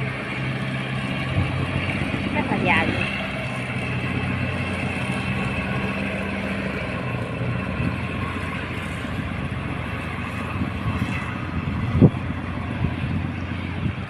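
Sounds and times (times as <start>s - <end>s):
diesel engine drone: 0.0s - 14.0s.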